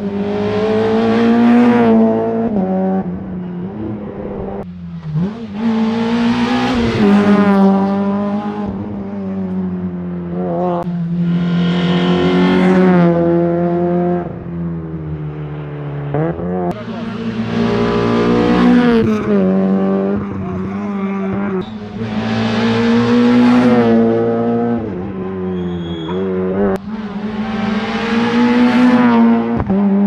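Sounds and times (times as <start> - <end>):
rally car engine revving hard: 0.0 - 3.2, 5.0 - 9.2, 10.3 - 14.4, 16.2 - 25.4, 26.2 - 30.0.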